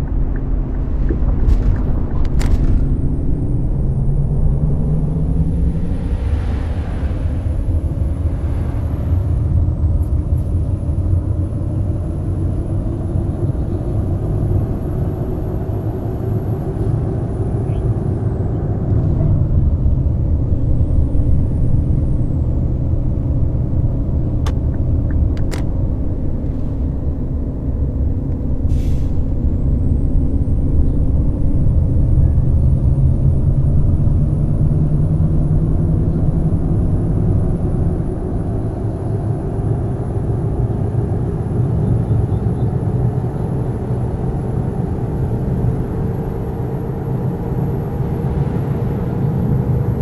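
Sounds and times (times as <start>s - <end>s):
bus diesel engine drone: 0.0s - 50.0s.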